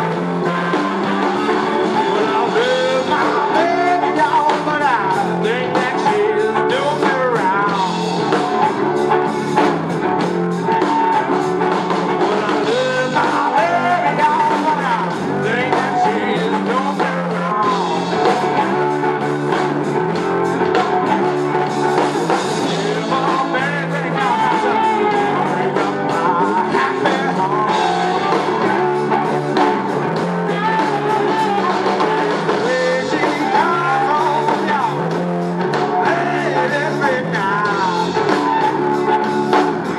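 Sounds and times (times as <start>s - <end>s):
electric blues band: 0.0s - 39.9s
harmonica: 0.0s - 39.9s
lead guitar with bending pitches: 0.0s - 39.9s.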